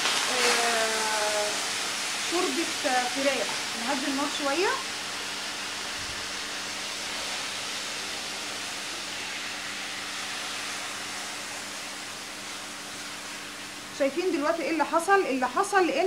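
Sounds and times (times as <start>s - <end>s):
stock sizzling in frying pan: 0.0s - 16.0s.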